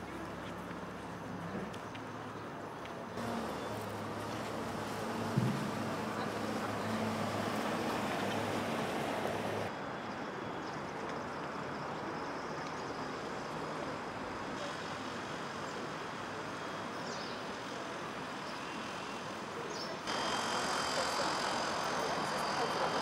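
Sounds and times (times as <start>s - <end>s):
distant traffic noise: 0.0s - 23.0s.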